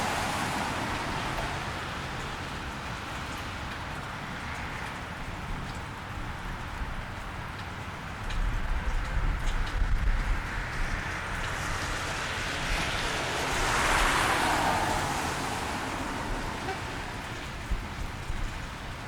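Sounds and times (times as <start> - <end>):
car tyres hissing on wet street: 0.0 - 19.0
steady rain: 0.0 - 19.0.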